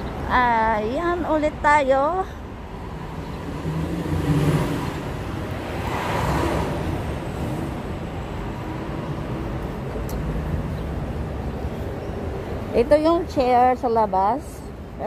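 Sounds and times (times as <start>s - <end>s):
road noise rush: 0.0s - 15.0s
vehicles passing: 0.0s - 15.0s.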